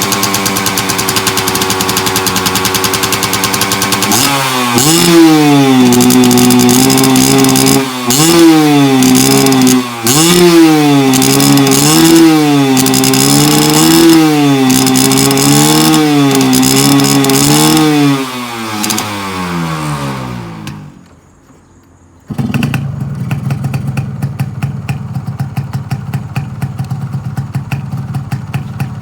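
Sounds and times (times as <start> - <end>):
motorcycle engine revving: 0.0 - 21.2, 22.3 - 29.0.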